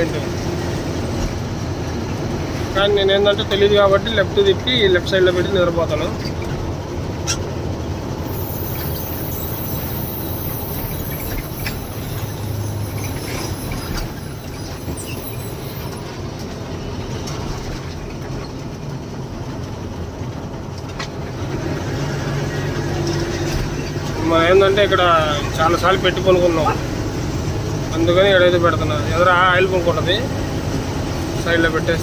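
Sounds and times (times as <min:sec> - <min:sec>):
diesel lorry engine drone: 0:00.0 - 0:32.0
road noise: 0:00.0 - 0:32.0.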